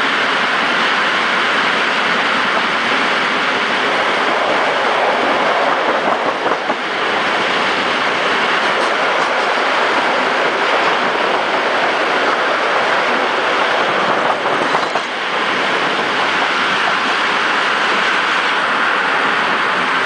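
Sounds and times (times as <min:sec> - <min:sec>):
train wheels rushing on rails: 0:00.0 - 0:20.0
wind blowing on microphone: 0:00.0 - 0:20.0.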